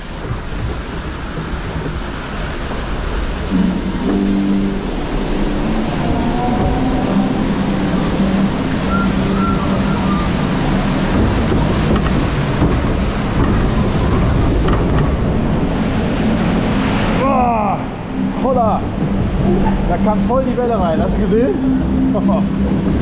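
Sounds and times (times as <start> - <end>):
water rushing over rapids: 0.0 - 23.0.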